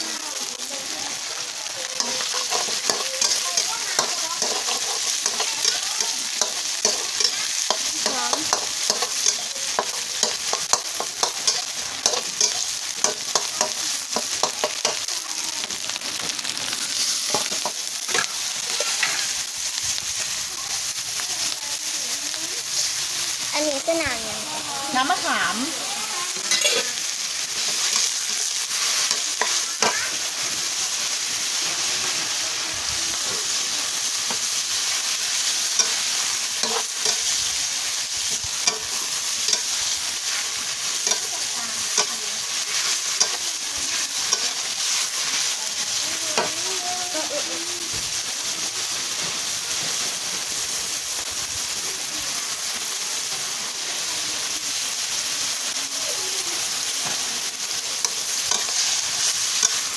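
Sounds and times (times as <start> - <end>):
noodles sizzling in a wok: 0.0 - 59.9.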